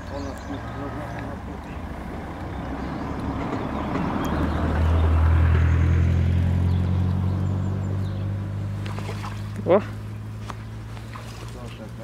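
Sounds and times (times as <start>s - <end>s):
background traffic noise: 0.0s - 12.0s
vehicle engine hum: 0.0s - 12.0s.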